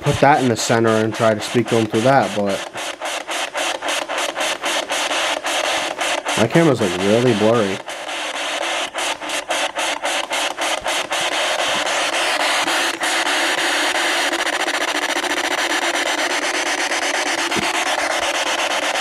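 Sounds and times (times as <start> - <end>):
radio static chopped into fragments: 0.0 - 19.0.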